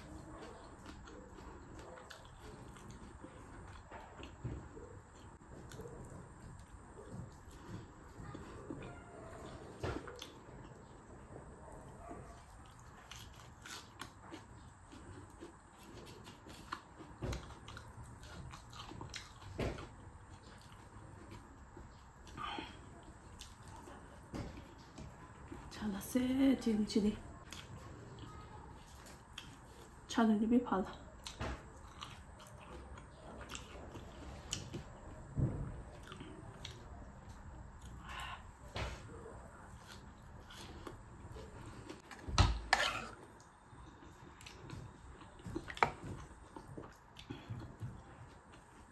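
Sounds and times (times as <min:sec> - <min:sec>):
chewing: 0:00.0 - 0:26.1, 0:27.2 - 0:30.1, 0:30.7 - 0:48.9.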